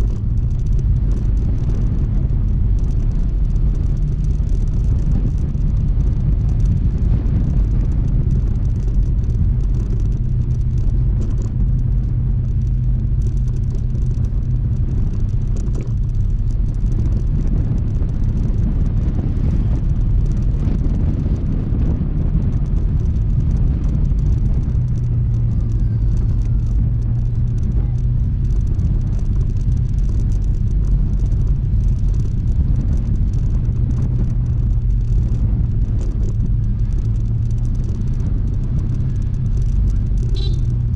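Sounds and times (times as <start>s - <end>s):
scooter engine running: 0.0s - 40.9s.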